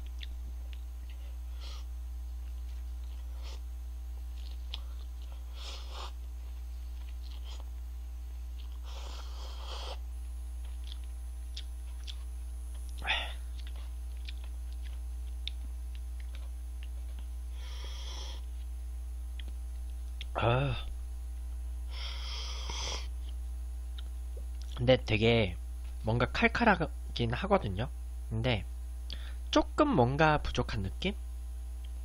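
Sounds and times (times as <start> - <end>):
low electrical hum: 0.0 - 32.0.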